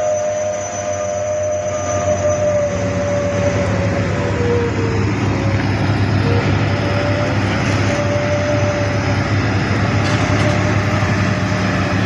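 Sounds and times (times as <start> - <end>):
thin steady whine: 0.0 - 9.9
excavator engine drone: 0.0 - 12.0.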